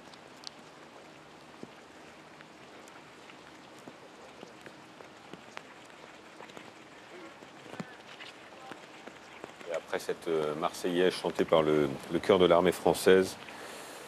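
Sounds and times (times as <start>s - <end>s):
light rain hiss: 0.0s - 14.0s
raindrops ticking: 0.0s - 14.0s.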